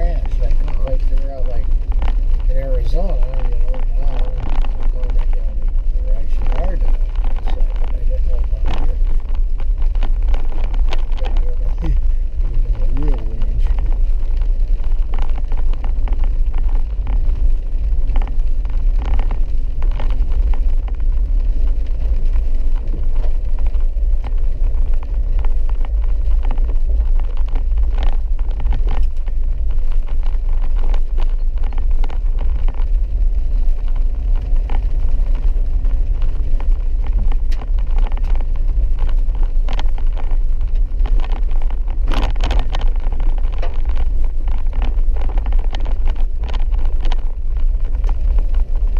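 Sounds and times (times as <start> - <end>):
small knocks and rattles: 0.0 - 48.9
vehicle engine and tyre rumble: 0.0 - 48.9.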